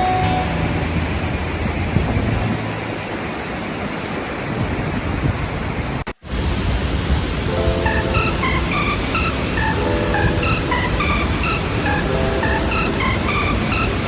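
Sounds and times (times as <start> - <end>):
waterfall rushing: 0.0 - 4.5, 6.3 - 14.0.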